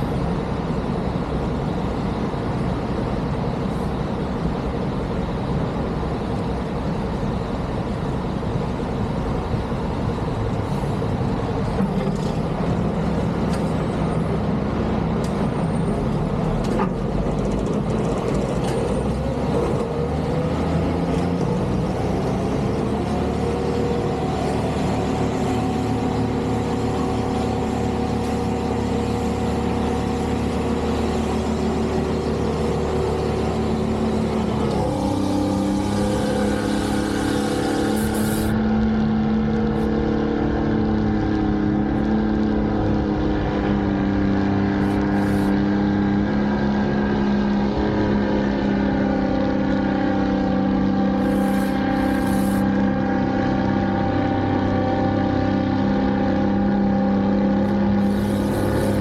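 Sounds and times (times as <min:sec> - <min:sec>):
snow-removal machine engine: 0:00.0 - 0:59.0.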